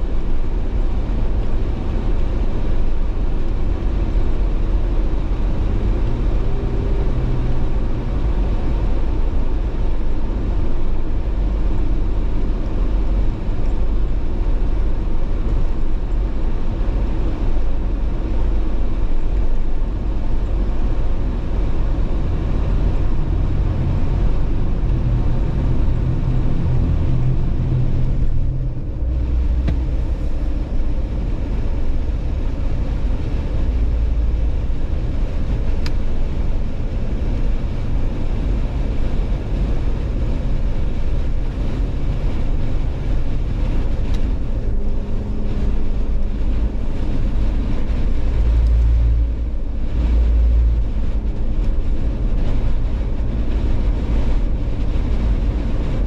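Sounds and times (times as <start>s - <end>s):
car driving road rumble: 0.0s - 56.0s.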